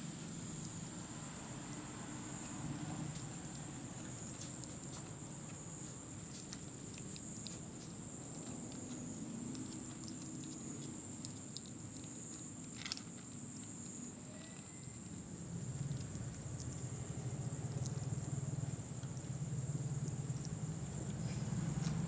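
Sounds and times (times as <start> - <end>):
kitten crunching dry kibble: 2.9 - 22.0.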